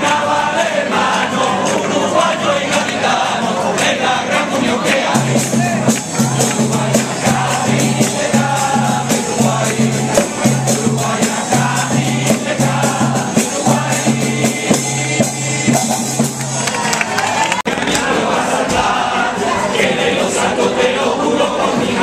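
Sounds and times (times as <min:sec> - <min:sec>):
group singing with instruments: 0:00.0 - 0:22.0
percussion beat: 0:00.0 - 0:22.0.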